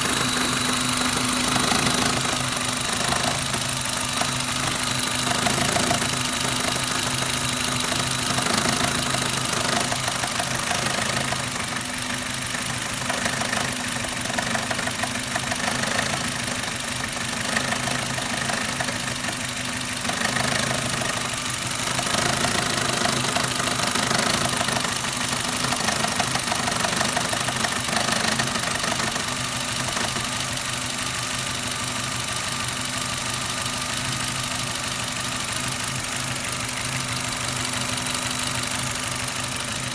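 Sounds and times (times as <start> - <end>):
car engine running: 0.0 - 39.9
fast even engine knock: 0.0 - 39.9.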